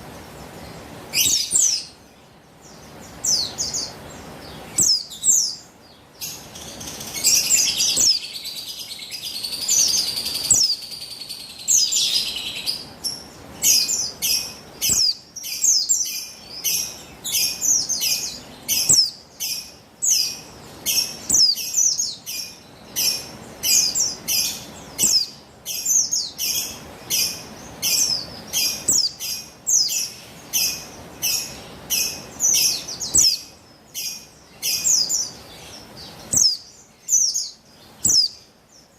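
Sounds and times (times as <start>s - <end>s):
bird twittering and calling: 0.1s - 38.9s.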